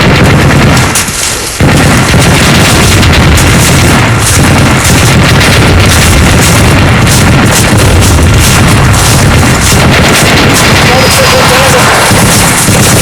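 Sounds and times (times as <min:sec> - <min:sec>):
explosions: 0:00.0 - 0:13.0
gunfire: 0:00.0 - 0:13.0.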